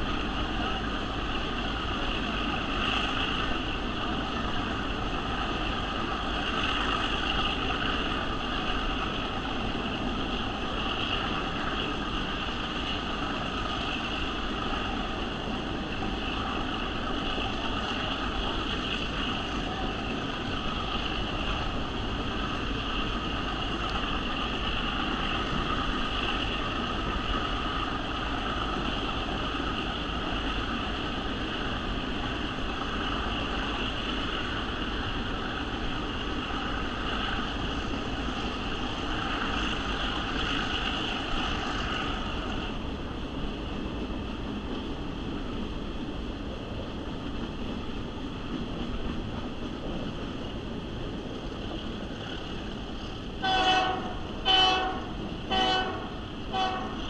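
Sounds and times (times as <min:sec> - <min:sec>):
wheels rolling on rails: 0:00.0 - 0:57.0
wind noise: 0:00.0 - 0:57.0.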